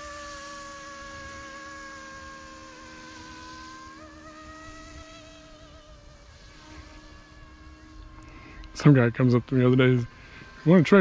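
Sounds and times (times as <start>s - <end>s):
rc helicopter motor whining: 0.0s - 11.0s.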